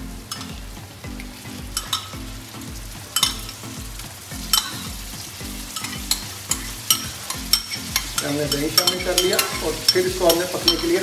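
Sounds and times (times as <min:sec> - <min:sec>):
chicken sizzling on a griddle: 0:00.0 - 0:11.0.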